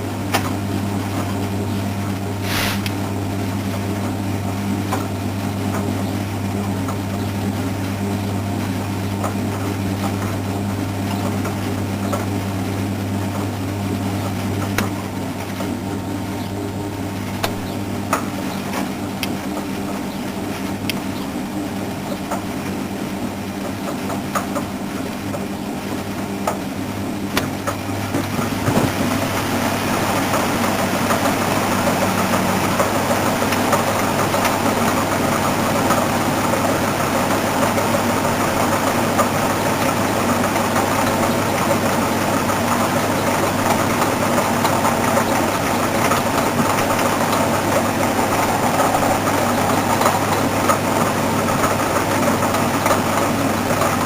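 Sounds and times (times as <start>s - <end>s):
washing machine running: 0.0s - 54.0s.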